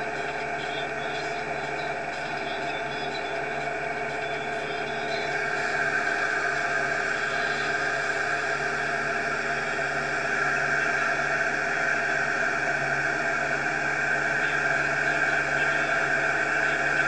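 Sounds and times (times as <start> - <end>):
feed mixer engine drone: 0.0 - 17.0.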